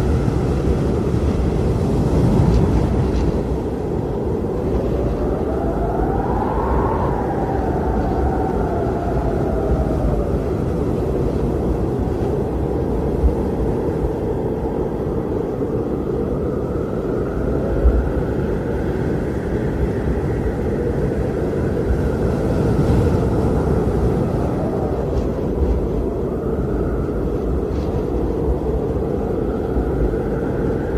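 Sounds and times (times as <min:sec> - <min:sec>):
howling blizzard wind: 0:00.0 - 0:30.9.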